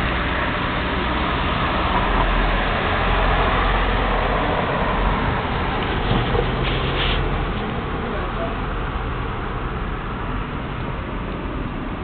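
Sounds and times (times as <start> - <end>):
distant traffic rumble: 0.0 - 12.0
street hiss: 0.0 - 12.0.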